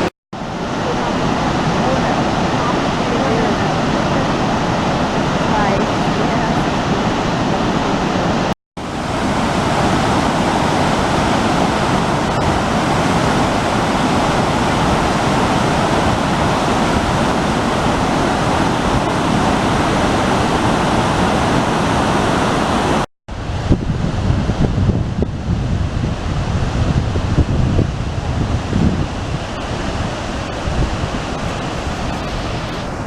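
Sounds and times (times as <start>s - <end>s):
waterfall roar: 0.0s - 33.0s.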